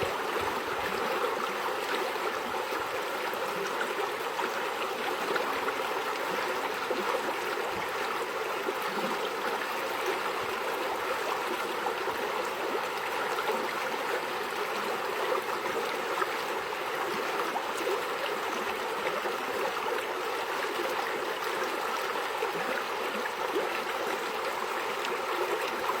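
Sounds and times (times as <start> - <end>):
flowing water: 0.0 - 26.0.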